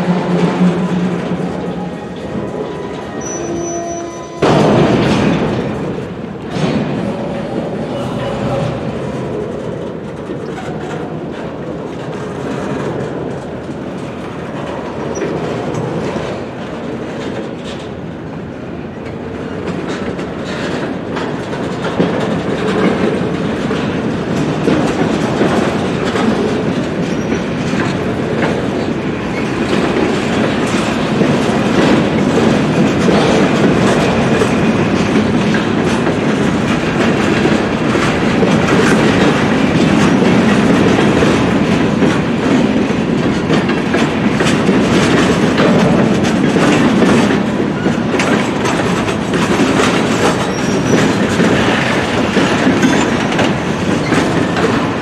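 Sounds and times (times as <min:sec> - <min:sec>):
freight train cars rolling: 0:00.0 - 0:55.0
wheels clicking over rail joints: 0:00.0 - 0:55.0.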